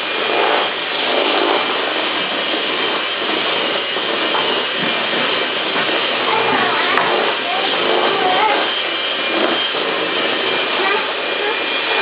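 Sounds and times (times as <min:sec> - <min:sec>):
kitchen appliance motor whirring: 0:00.0 - 0:12.0.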